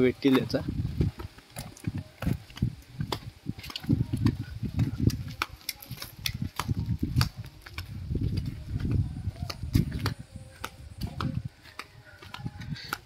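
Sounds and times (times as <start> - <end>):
footsteps on pavement: 0.0 - 13.0
low rumbling microphone noise: 0.0 - 13.0.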